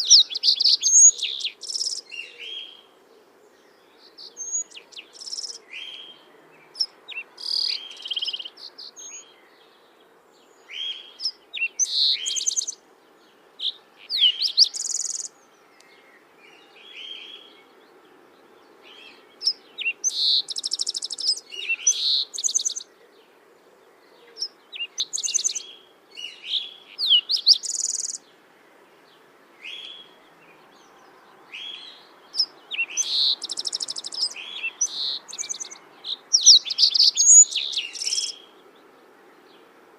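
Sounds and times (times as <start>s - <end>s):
faint steady background noise: 0.0s - 39.9s
songbirds singing: 0.0s - 39.9s.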